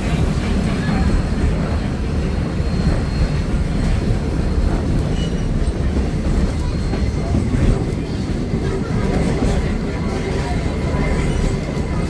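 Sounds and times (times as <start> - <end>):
train carriage rumbling on track: 0.0 - 12.0.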